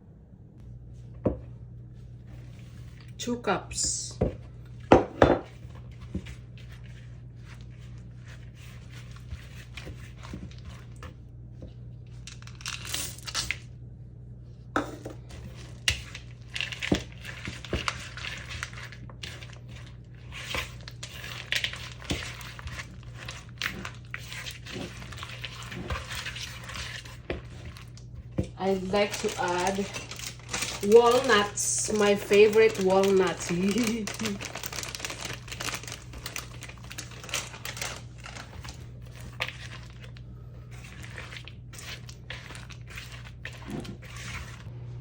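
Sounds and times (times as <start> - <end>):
steady low hum: 0.0 - 45.0
coconut crinkling and scraping in bowl: 1.0 - 13.7, 14.6 - 44.8.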